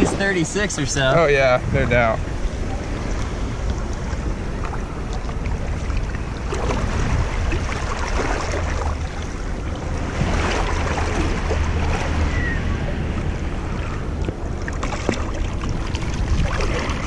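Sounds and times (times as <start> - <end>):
wind rumble on microphone: 0.0 - 17.0
water sloshing and splashing: 1.8 - 17.0.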